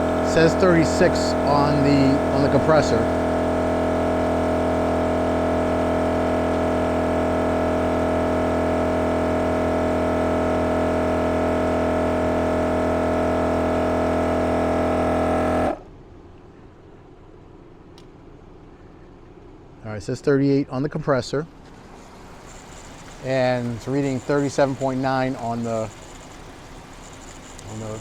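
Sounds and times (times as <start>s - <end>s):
tire compressor humming: 0.0s - 19.8s, 21.4s - 28.0s.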